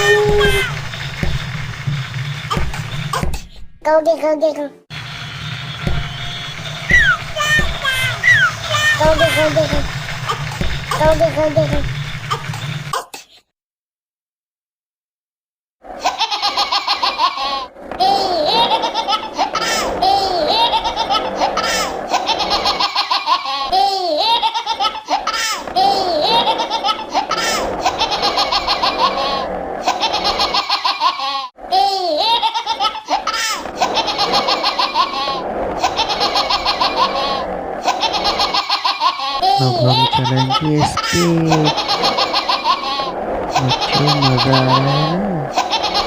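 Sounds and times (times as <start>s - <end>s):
baby laughing: 0.0s - 0.8s, 6.9s - 13.4s, 16.0s - 46.0s.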